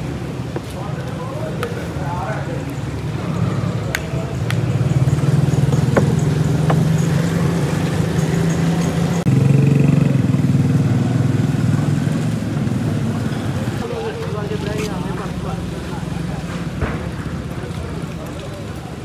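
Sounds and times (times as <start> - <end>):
vehicle engine running: 3.0 - 19.0.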